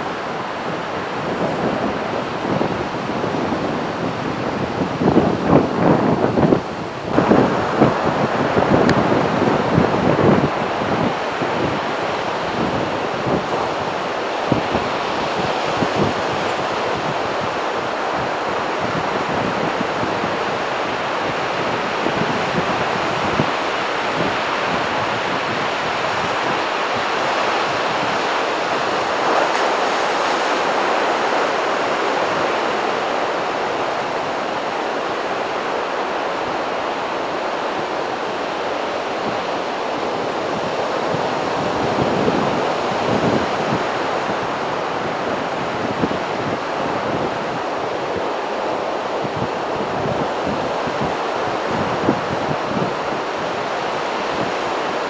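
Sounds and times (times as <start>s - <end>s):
heavy surf breaking on beach: 0.0s - 55.0s
wind on microphone: 0.0s - 55.0s.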